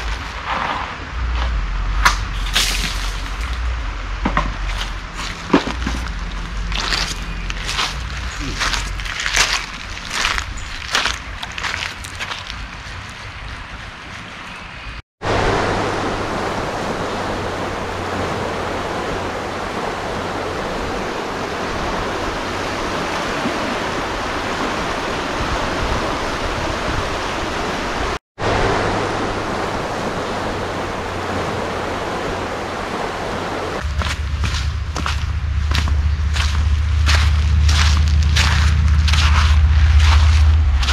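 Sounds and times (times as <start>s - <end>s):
river rushing: 0.0s - 12.7s, 15.2s - 40.9s.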